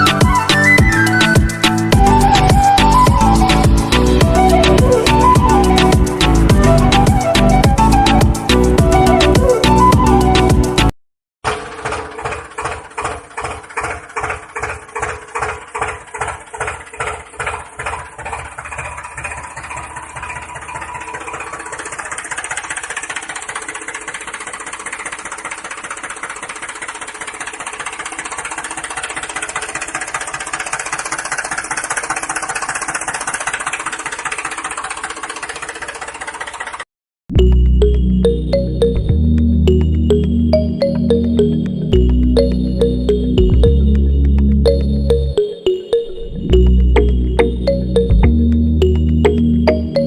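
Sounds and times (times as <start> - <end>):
engine chugging: 0.0 - 45.7, 46.3 - 50.0.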